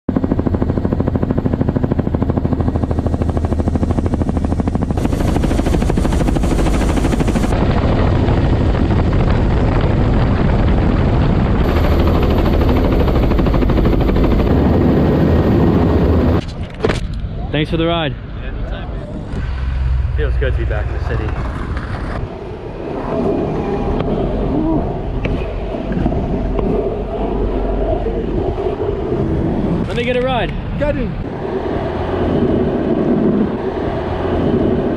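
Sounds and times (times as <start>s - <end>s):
helicopter rotor blades beating: 0.1s - 16.4s, 19.1s - 34.9s
dense steady rush of noise: 0.2s - 34.9s.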